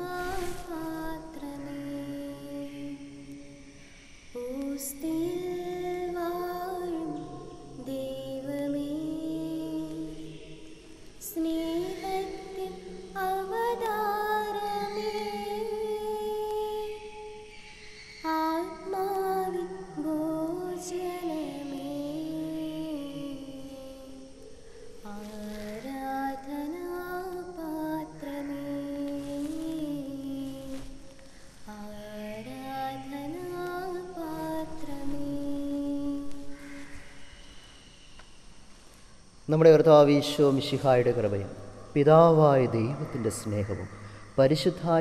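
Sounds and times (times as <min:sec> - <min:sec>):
slow hymn singing: 0:00.0 - 0:45.0.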